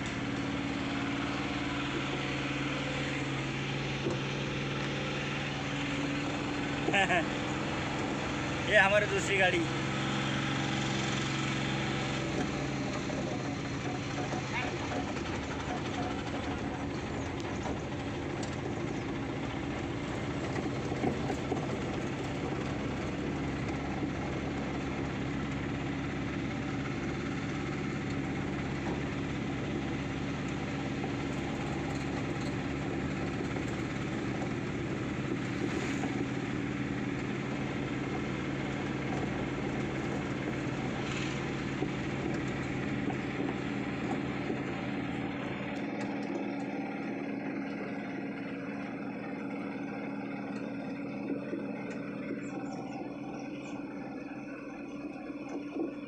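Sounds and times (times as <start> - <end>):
truck engine from inside cab: 0.0 - 56.0.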